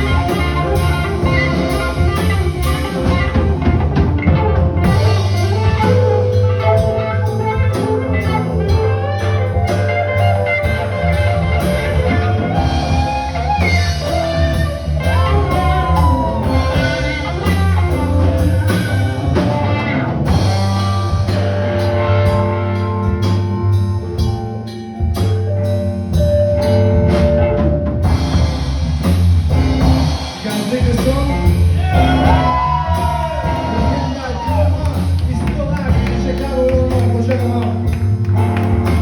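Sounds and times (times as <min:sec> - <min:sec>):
drum kit beat: 0:00.0 - 0:39.0
guitar: 0:00.0 - 0:39.0
heavy bass: 0:00.0 - 0:39.0.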